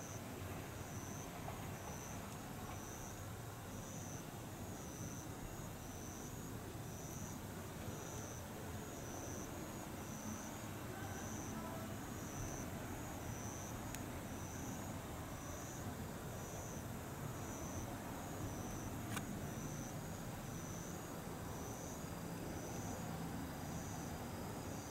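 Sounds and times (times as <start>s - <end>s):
insects chirping: 0.0s - 24.9s.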